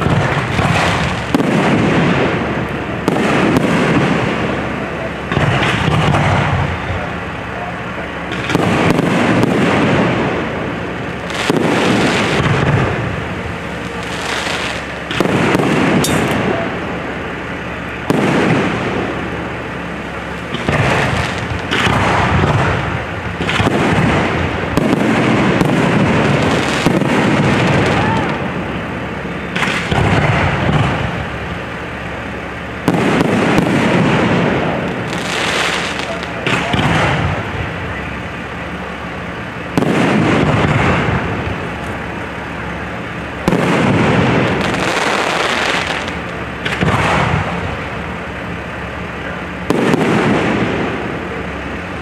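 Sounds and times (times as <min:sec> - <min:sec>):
fireworks booming: 0:00.0 - 0:52.0.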